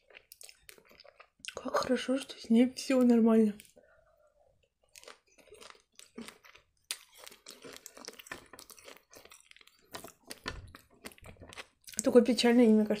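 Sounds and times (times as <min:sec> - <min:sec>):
chewing gummy candy: 0:00.0 - 0:03.8, 0:04.6 - 0:12.3.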